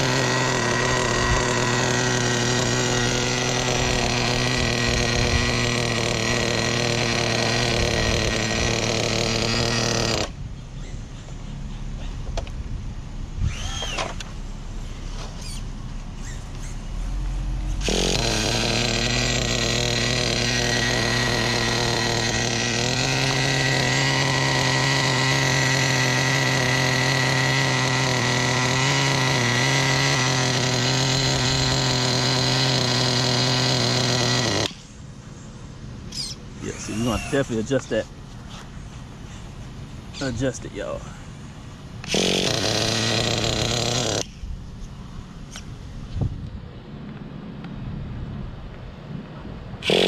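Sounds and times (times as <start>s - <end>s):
nitro engine idling with whine: 0.0s - 50.0s.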